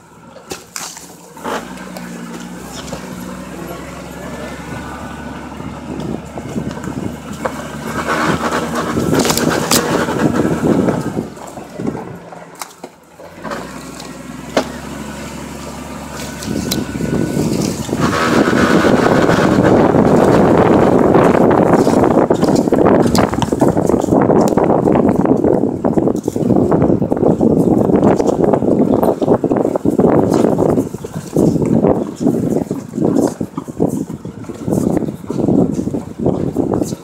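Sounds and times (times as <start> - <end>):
car engine running: 0.0 - 37.0
tyres crunching over dirt: 0.0 - 37.0.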